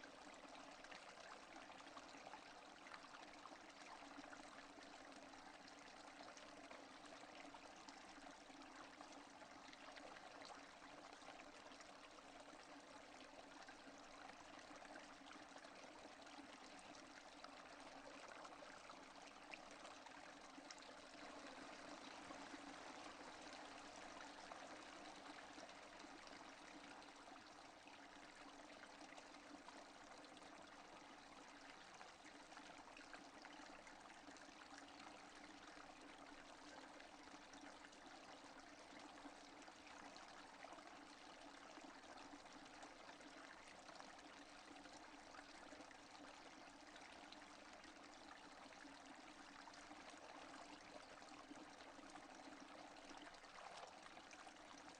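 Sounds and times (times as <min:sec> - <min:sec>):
faint steady rain: 0:00.0 - 0:54.9.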